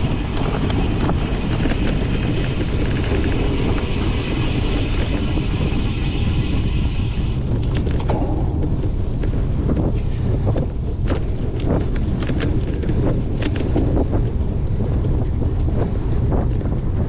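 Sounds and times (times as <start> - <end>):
bike clicks and rattles: 0.0 - 17.0
wind rushing over microphone: 0.0 - 17.0.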